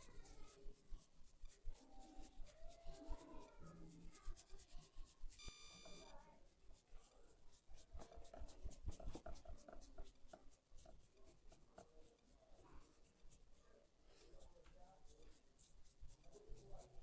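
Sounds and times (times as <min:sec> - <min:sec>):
hands rubbing oiled hair: 0:00.0 - 0:17.0.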